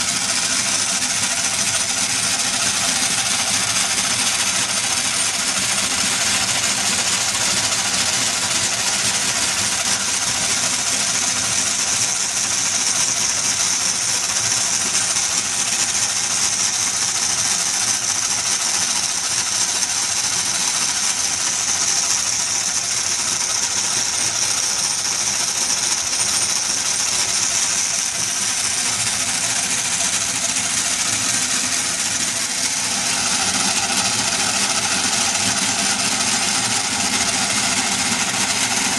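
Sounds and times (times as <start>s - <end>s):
model engine whir and rattle: 0.0s - 38.9s.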